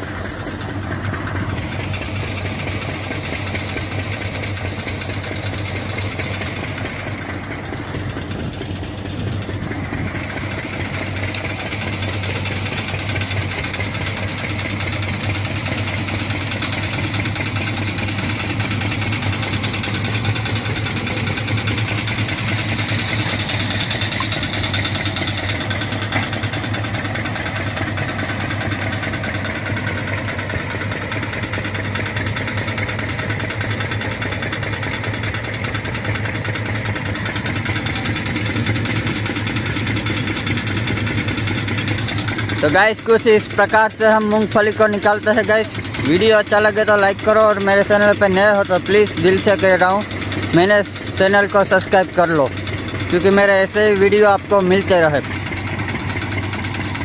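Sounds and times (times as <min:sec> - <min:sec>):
thresher drum rattling: 0:00.0 - 0:57.0
tractor diesel engine hum: 0:00.0 - 0:57.0.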